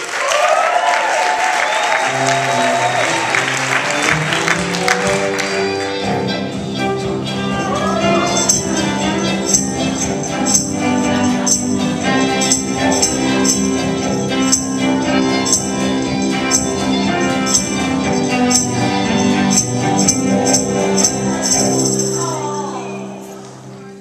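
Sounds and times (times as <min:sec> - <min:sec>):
live band music: 0:01.8 - 0:24.0
jingly high percussion: 0:03.8 - 0:23.5.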